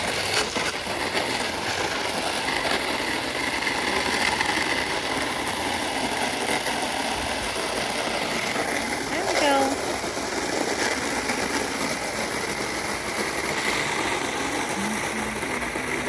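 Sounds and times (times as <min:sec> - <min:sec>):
hose water filling plastic pool: 0:00.0 - 0:16.0.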